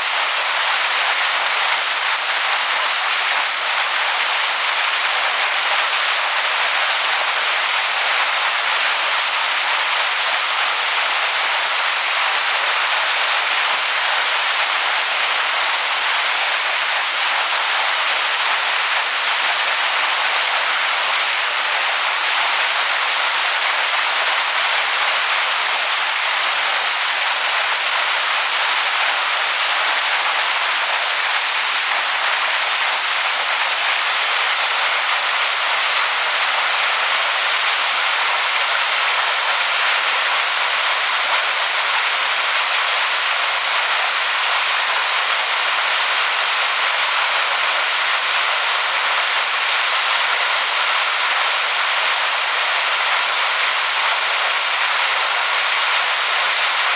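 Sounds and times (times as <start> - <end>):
waterfall rushing over rocks: 0.0 - 56.9.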